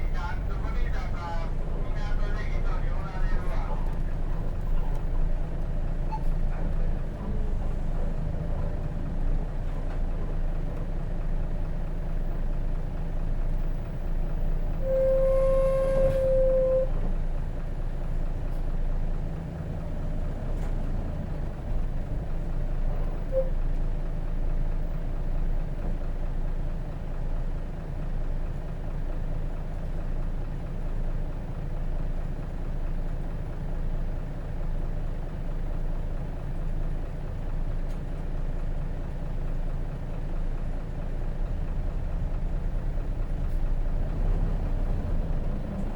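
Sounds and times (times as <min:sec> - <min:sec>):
bus engine and road drone: 0:00.0 - 0:45.9.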